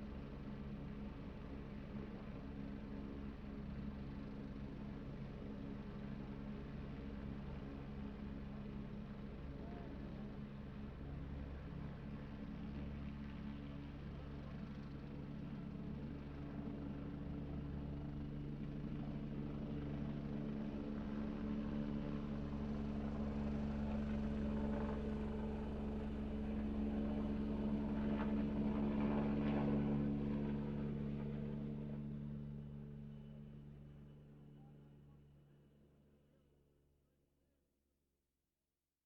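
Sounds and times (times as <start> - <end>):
helicopter engine and rotor drone: 0.0 - 36.5.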